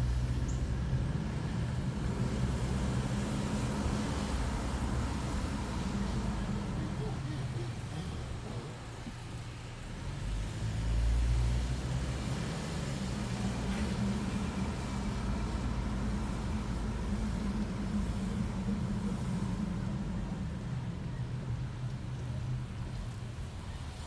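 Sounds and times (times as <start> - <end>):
car driving with low rumble: 0.0 - 24.0.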